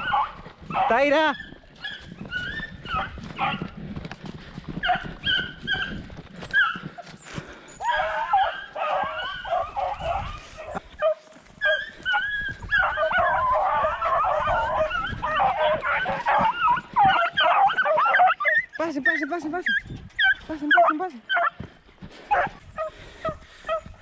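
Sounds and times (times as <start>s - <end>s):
dogs baying and yelping: 0.0s - 3.8s, 4.6s - 24.0s.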